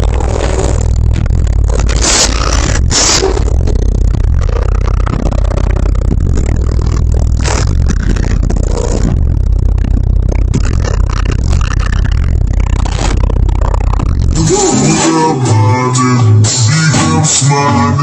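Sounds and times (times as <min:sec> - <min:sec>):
car panels rattling and buzzing: 0:00.0 - 0:14.4
car stereo deep bass: 0:00.0 - 0:18.0.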